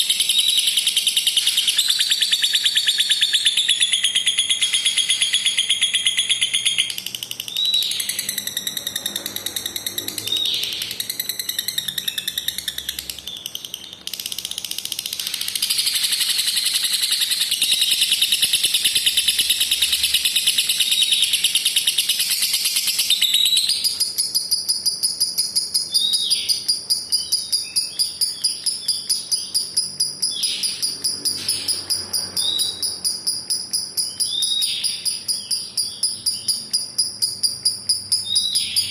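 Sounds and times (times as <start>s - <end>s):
lovebird trilling: 0.0s - 38.9s.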